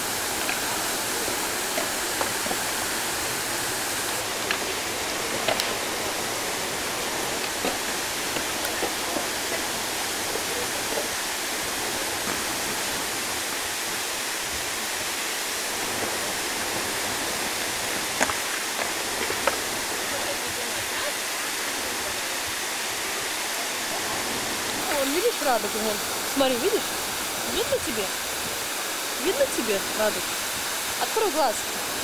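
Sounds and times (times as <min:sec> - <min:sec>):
fountain water splashing: 0:00.0 - 0:32.0.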